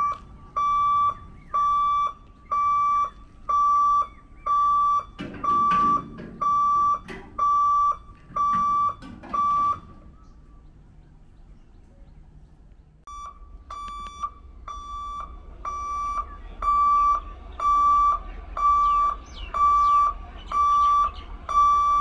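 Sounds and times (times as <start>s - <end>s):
level crossing warning buzzer beeping: 0.0s - 10.0s, 13.1s - 22.0s.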